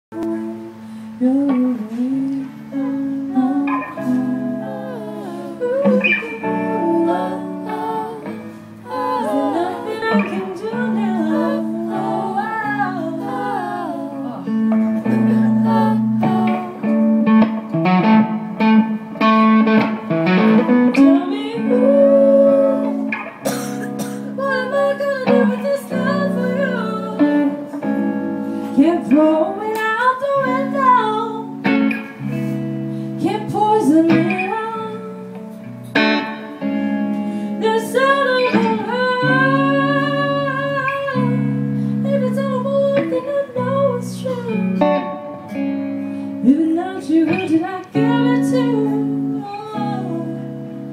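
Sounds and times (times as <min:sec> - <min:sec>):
woman singing: 0:00.1 - 0:17.4, 0:20.9 - 0:23.2, 0:24.0 - 0:28.0, 0:28.6 - 0:31.9, 0:33.2 - 0:36.6, 0:37.5 - 0:45.6, 0:46.4 - 0:50.9
electric guitar chords: 0:00.1 - 0:50.9.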